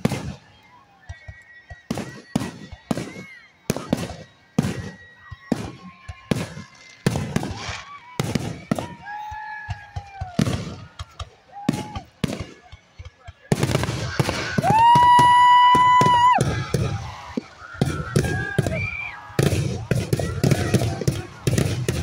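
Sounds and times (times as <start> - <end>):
firework bangs: 0.0 - 22.0.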